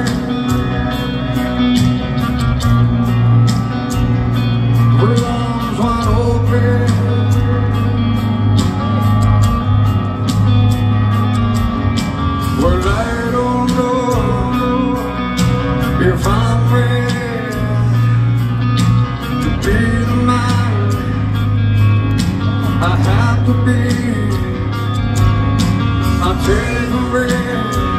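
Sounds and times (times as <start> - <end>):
rock band playing live: 0.0 - 27.9.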